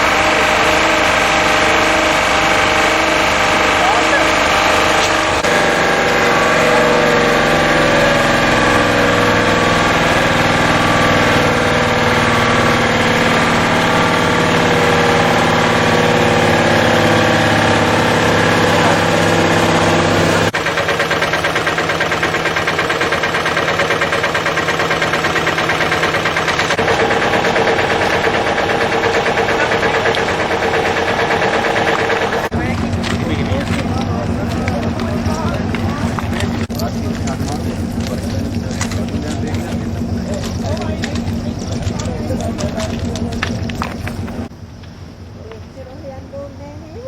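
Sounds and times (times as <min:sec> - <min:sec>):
large engine running: 0:00.0 - 0:47.0.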